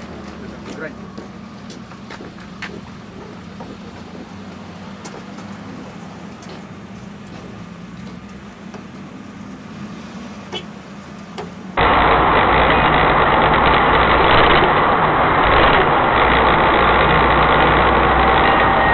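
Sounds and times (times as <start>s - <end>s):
car driving hum: 0.0s - 18.9s
rushing road and engine noise: 0.0s - 18.9s.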